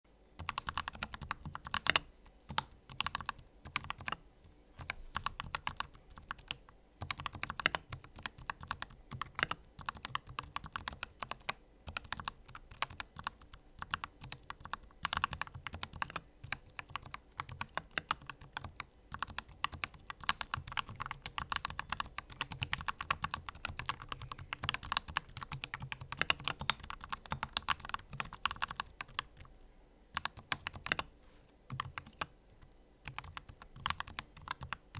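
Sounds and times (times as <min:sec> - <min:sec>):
mechanical keyboard typing: 0:00.4 - 0:04.2, 0:04.8 - 0:29.5, 0:30.1 - 0:31.1, 0:31.7 - 0:32.3, 0:33.0 - 0:34.9.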